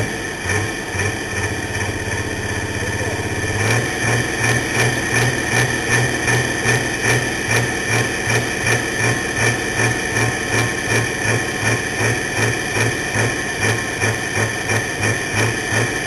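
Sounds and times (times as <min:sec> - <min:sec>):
steady high whine: 0:00.0 - 0:16.0
tractor engine idling with lope: 0:00.0 - 0:16.0.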